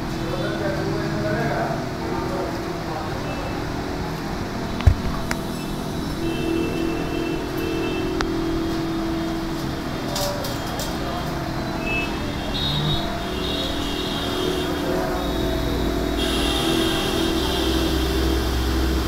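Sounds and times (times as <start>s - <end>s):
mechanical hum and rumble: 0.0s - 19.0s.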